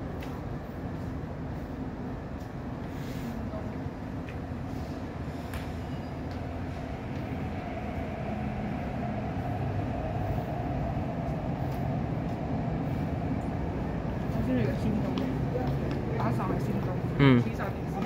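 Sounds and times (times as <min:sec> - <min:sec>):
electric train rumble: 0:00.0 - 0:18.0.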